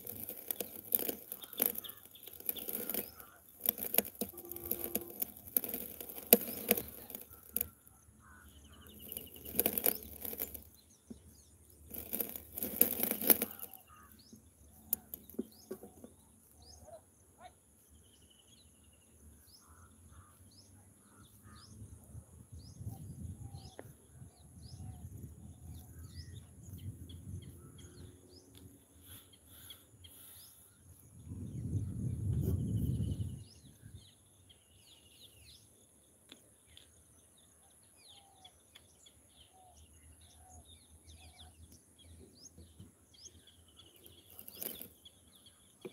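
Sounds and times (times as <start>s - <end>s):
birds chirping: 0.0s - 22.0s, 22.6s - 45.9s.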